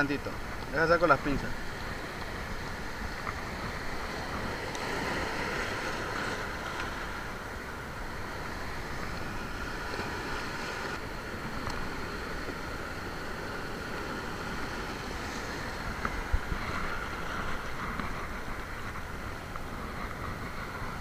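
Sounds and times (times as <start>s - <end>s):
surf breaking over rocks: 0.0s - 21.0s.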